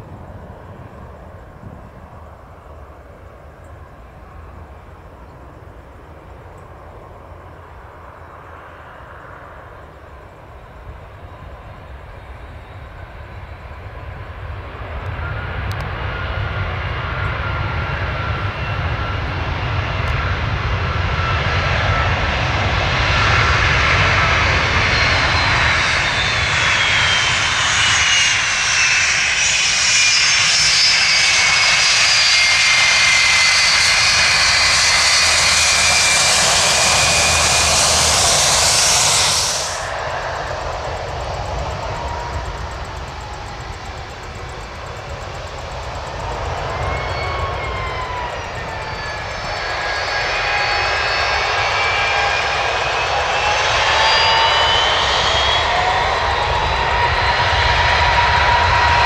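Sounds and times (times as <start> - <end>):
jet airliner engines passing: 0.0 - 59.0.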